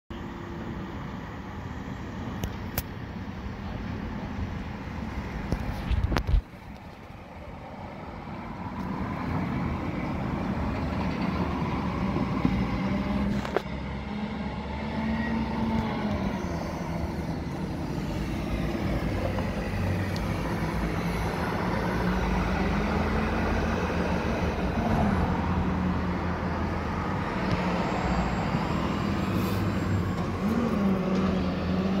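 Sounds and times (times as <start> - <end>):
large engine droning: 0.1 - 32.0.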